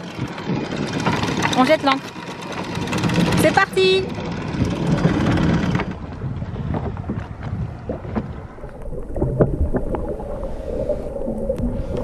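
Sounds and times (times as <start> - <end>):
water slapping against boat: 0.0 - 10.2
wind buffeting microphone: 0.0 - 12.0.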